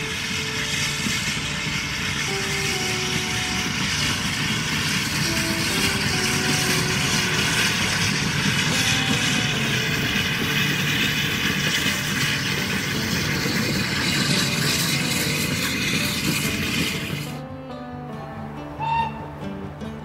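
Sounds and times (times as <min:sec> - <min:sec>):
steam locomotive exhaust: 0:00.0 - 0:17.6, 0:18.7 - 0:19.4
train wheels on rails: 0:00.0 - 0:17.6.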